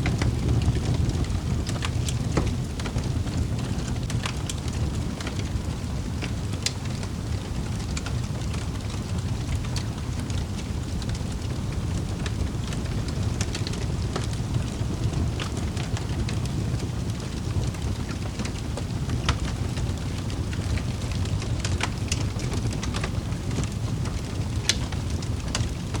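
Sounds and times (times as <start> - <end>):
fire crackling and popping: 0.0 - 26.0
fire roaring: 0.0 - 26.0.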